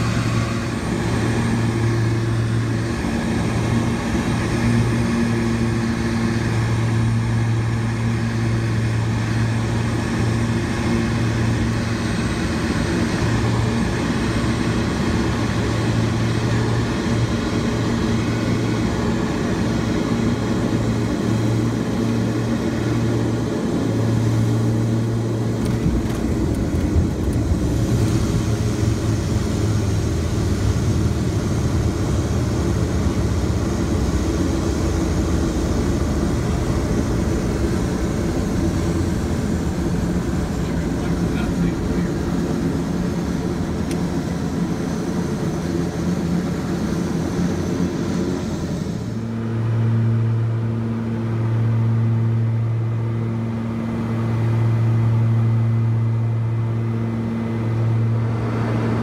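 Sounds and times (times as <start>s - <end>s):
aircraft rolling along runway: 0.0s - 59.0s
turboprop engines droning: 0.0s - 59.0s.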